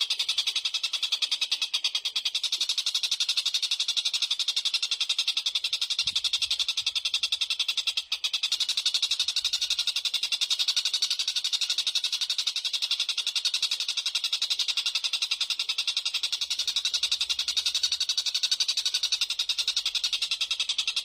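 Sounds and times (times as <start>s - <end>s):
songbirds chattering and trilling: 0.0s - 21.0s.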